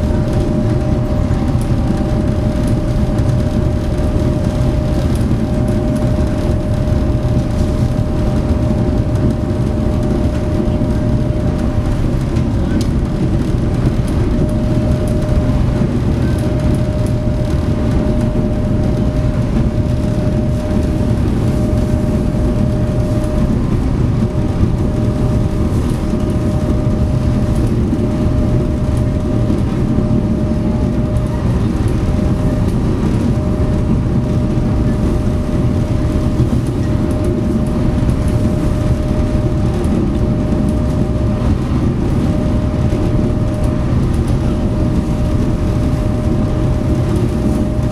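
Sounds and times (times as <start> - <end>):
constant engine whine: 0.0 - 47.9
ferry engine low rumble: 0.0 - 47.9.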